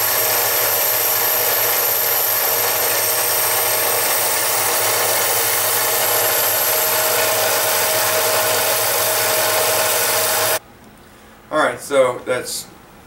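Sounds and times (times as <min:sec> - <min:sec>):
lathe motor and gear hum: 0:00.0 - 0:10.6.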